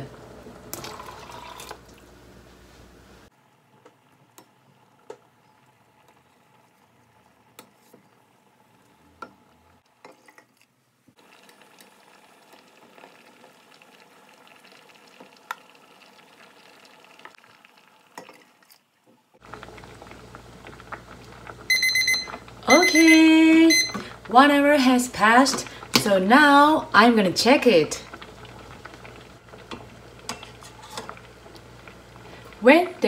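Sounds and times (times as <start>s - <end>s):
beans simmering in a pot: 0.0s - 33.0s.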